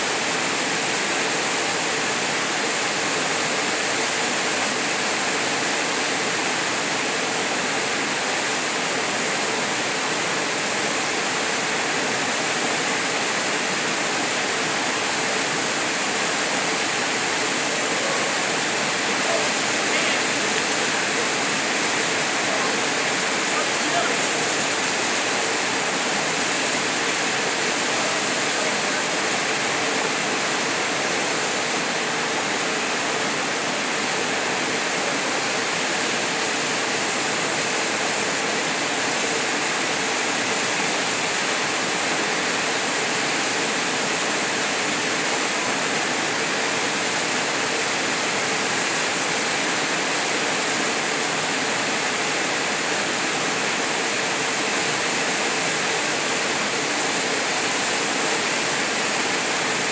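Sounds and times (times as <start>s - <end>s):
waterfall pouring into pool: 0.0s - 59.9s.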